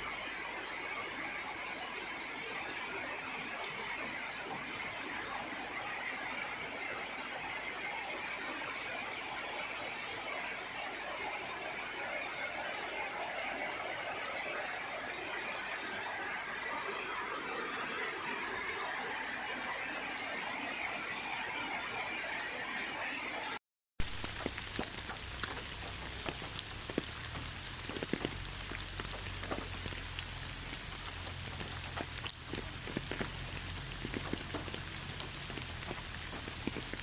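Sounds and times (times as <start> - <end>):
steady rain hiss: 0.0 - 22.7, 24.0 - 37.0.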